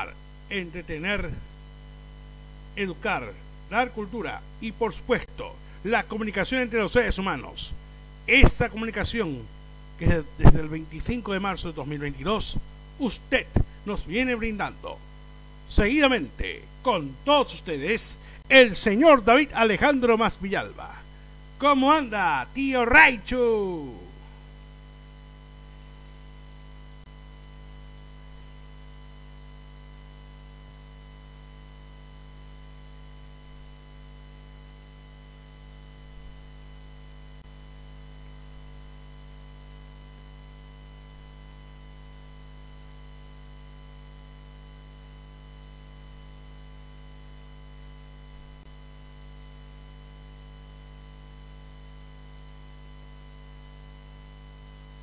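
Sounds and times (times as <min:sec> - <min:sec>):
electrical mains hum and buzz: 0:00.0 - 0:55.0.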